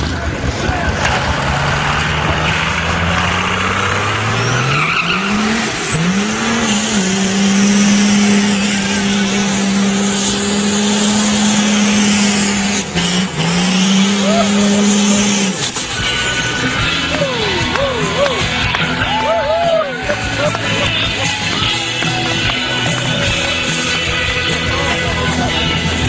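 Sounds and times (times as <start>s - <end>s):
diesel engine revving: 0.0s - 26.0s
tyres spinning: 0.0s - 26.0s.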